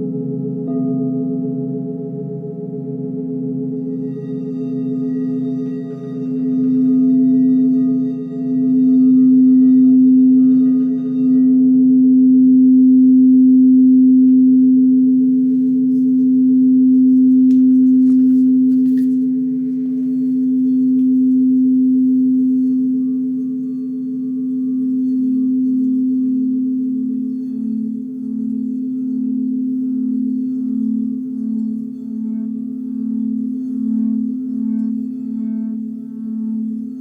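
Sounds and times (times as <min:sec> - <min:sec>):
singing bowl low tone: 0:00.0 - 0:37.0.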